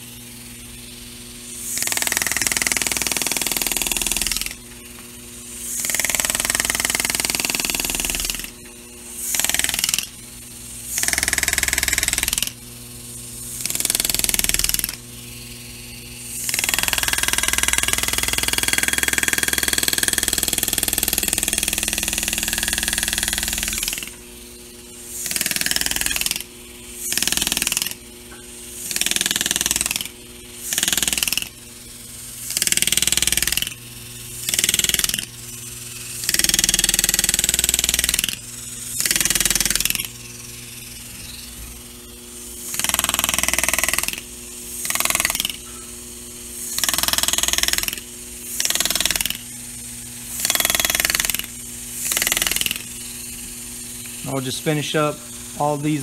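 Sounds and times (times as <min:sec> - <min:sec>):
air graver buzzing: 0:00.0 - 0:56.0.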